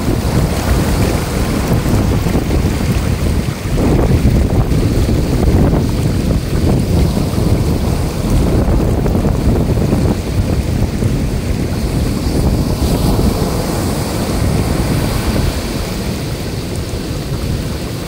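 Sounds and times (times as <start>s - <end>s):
waves breaking on beach: 0.0s - 18.0s
wind buffeting microphone: 0.0s - 18.0s.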